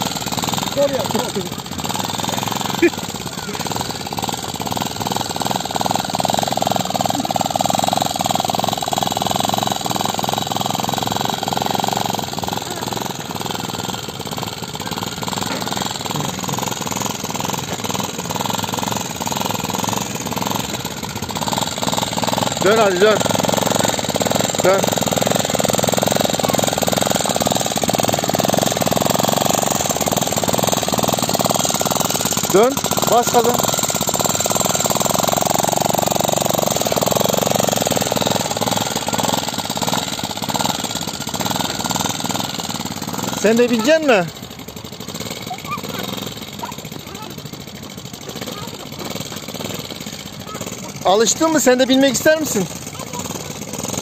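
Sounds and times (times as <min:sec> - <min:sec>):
small atv engine running: 0:00.0 - 0:54.0.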